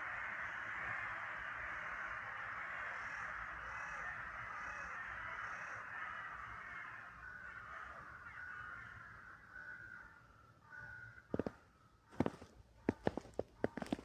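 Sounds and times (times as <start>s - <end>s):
flock of crows cawing: 0.0s - 14.0s.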